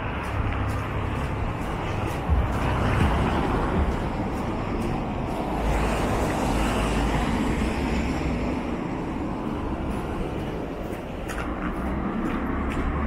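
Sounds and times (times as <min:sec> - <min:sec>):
city traffic: 0:00.0 - 0:13.0.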